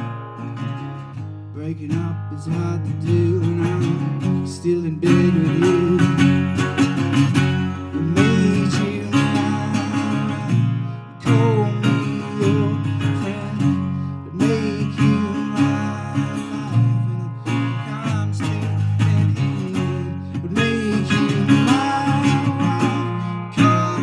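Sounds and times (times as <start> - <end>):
resonator guitar strumming: 0.0 - 24.0
man singing: 1.5 - 6.6, 7.7 - 24.0.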